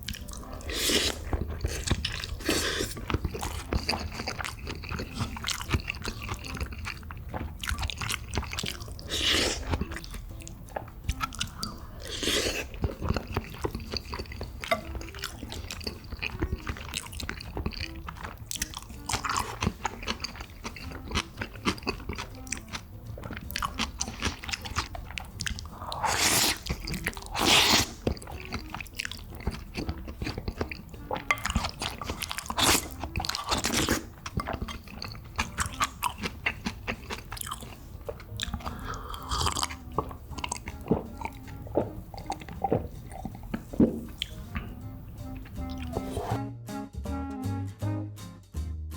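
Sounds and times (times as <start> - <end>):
person chewing and eating: 0.0 - 46.4.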